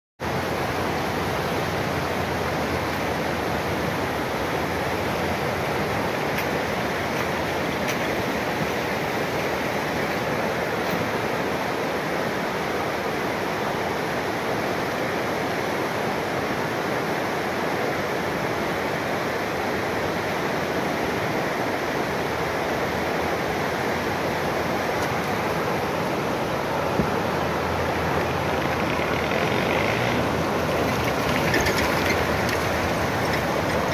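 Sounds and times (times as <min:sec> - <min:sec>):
river rushing: 0:00.2 - 0:33.9.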